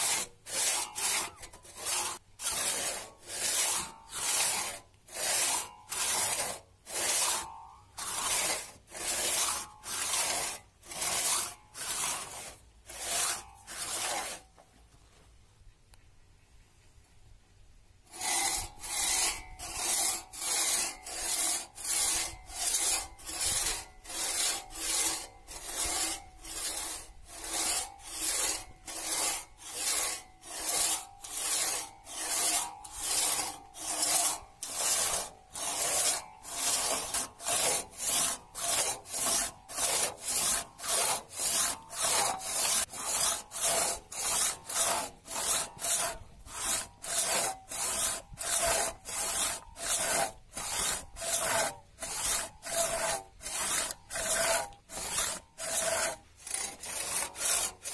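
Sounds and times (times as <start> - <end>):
hand saw rasping through log: 0.0 - 14.5, 18.1 - 57.9.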